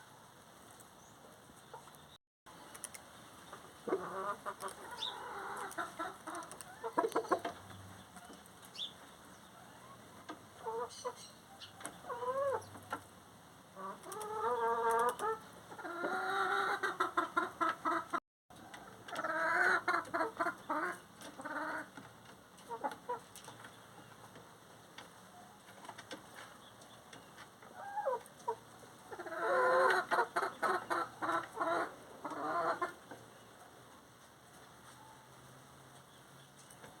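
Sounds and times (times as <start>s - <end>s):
chickens clucking and cackling: 1.2s - 37.0s.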